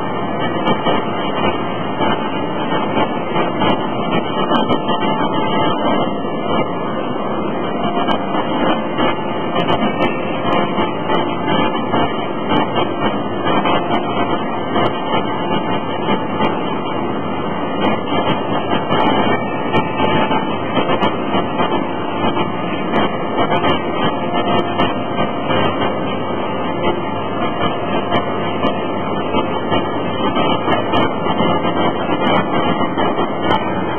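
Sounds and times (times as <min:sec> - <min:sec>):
machinery rumble and hum: 0:00.0 - 0:33.9.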